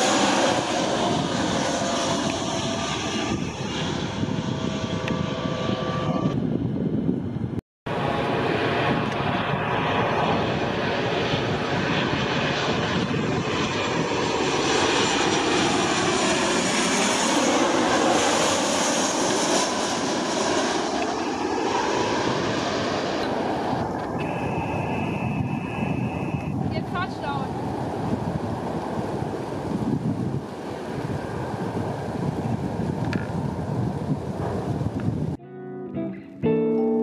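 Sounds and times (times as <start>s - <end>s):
jet engines of low passing airliner: 0.0s - 35.4s.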